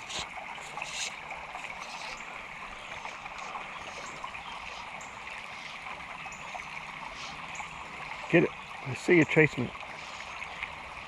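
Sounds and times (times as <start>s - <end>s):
creek water running over riffles: 0.0s - 11.0s.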